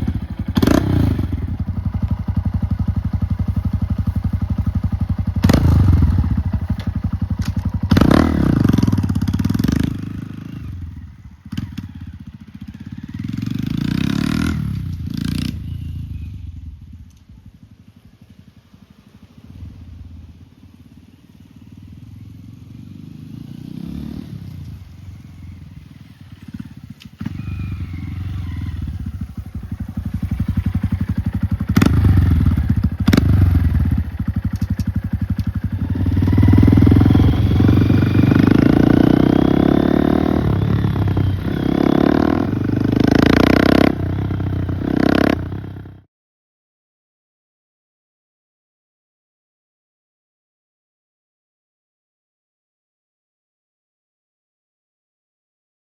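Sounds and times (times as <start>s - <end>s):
motorcycle engine revving: 0.0s - 46.1s.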